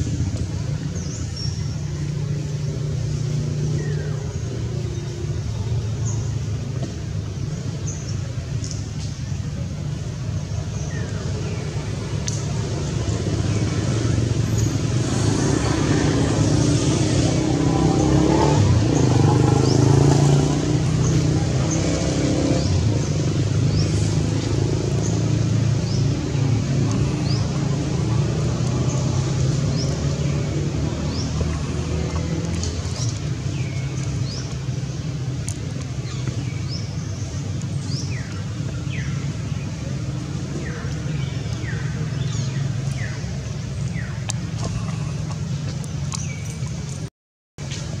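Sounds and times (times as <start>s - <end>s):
engine throbbing hum: 0.0s - 48.0s.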